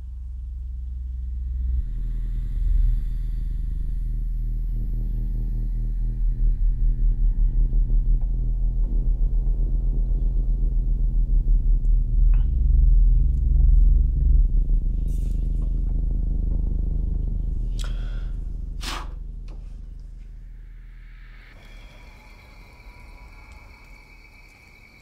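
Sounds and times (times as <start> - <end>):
low throbbing drone: 0.0 - 25.0.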